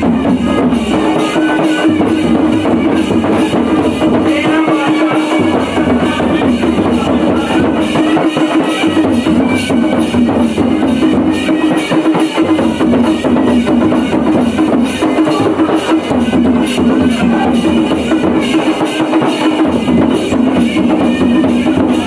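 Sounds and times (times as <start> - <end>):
drums in dance rhythm: 0.0 - 22.0.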